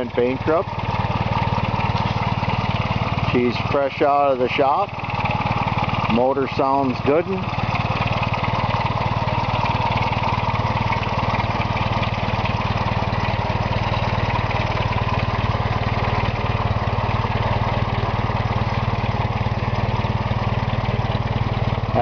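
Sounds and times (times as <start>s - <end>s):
tractor engine running steadily: 0.0s - 22.0s.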